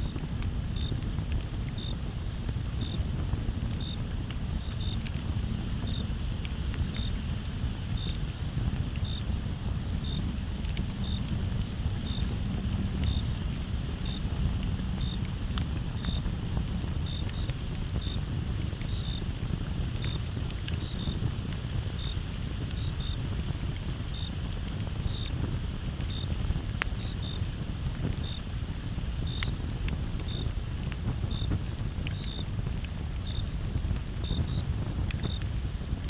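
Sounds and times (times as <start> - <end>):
cricket chirping: 0.0 - 3.1, 3.7 - 35.7
campfire crackling and popping: 0.0 - 36.0
crickets trilling: 0.0 - 36.0.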